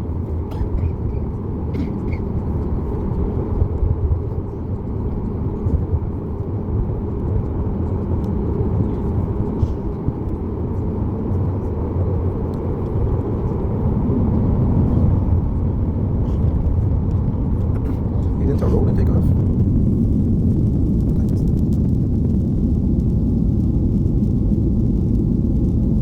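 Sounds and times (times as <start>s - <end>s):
airplane cabin low rumble: 0.0s - 26.0s
faint hum: 0.0s - 26.0s.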